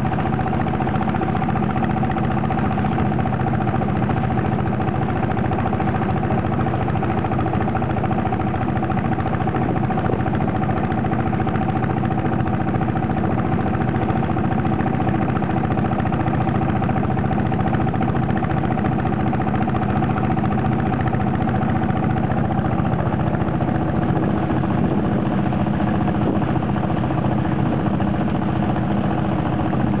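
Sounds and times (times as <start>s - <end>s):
motorboat engine droning: 0.0s - 30.0s.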